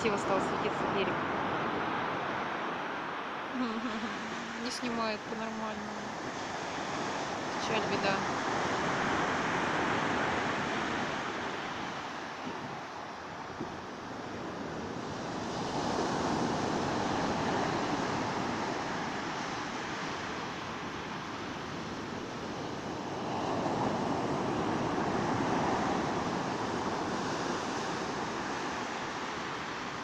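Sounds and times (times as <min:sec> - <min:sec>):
sea waves washing onto shore: 0:00.0 - 0:30.0.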